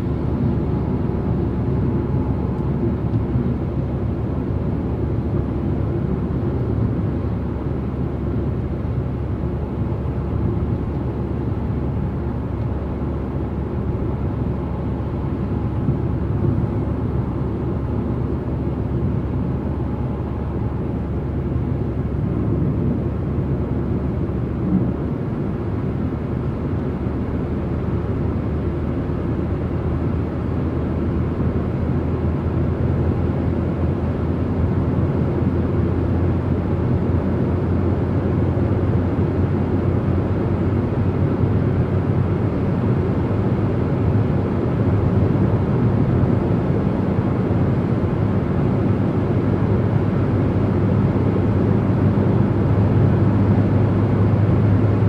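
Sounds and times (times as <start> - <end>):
car driving at motorway speed: 0.0 - 55.0.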